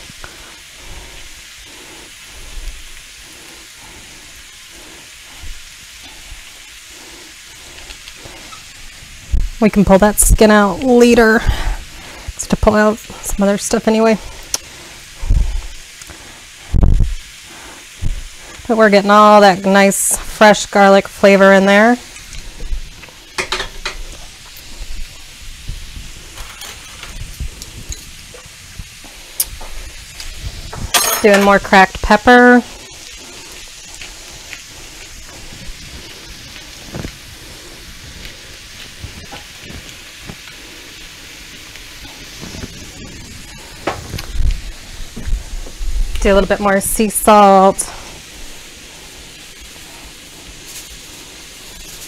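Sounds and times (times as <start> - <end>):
meat sizzling in a frying pan: 0.0 - 52.0.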